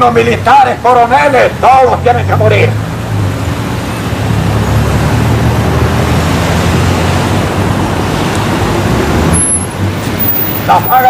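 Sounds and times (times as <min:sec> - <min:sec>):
heavy road traffic rumble: 0:00.0 - 0:11.0.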